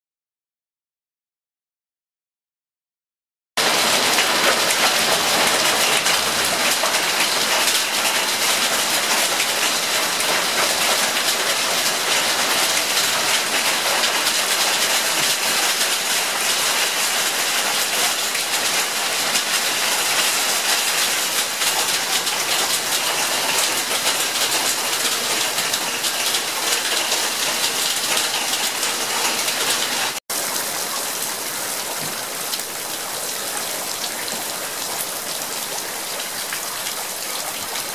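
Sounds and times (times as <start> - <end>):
hail and heavy rain: 3.6 - 37.9.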